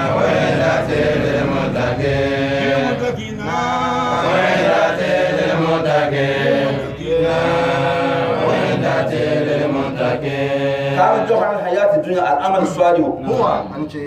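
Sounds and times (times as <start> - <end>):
men chanting a sung refrain: 0.0 - 14.0.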